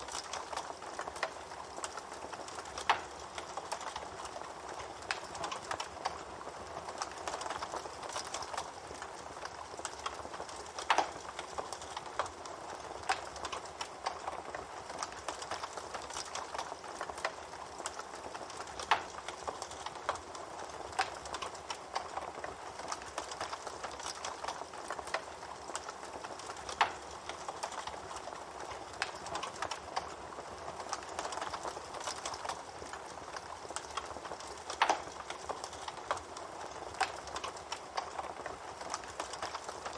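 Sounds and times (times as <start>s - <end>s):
campfire flames hissing: 0.0s - 39.9s
fire crackles and sharp pops: 0.0s - 39.9s.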